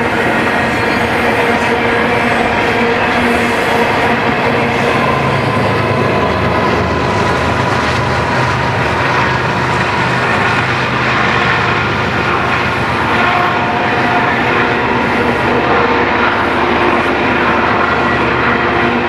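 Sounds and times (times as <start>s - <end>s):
diesel locomotives droning: 0.0s - 19.0s
freight train cars rumbling and rattling: 0.0s - 19.0s.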